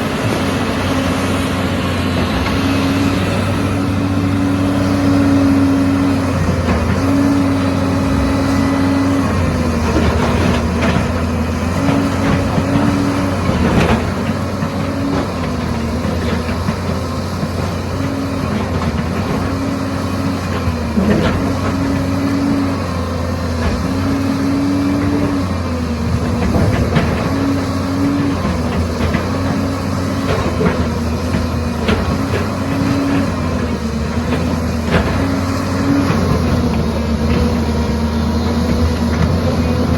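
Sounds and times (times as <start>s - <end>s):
diesel excavator running: 0.0s - 39.9s
excavator whine: 0.0s - 39.9s.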